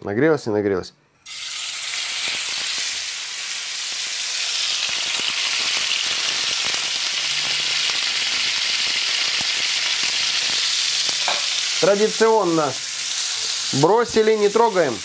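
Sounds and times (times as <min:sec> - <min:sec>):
meat sizzling in hot oil: 0:01.2 - 0:15.0.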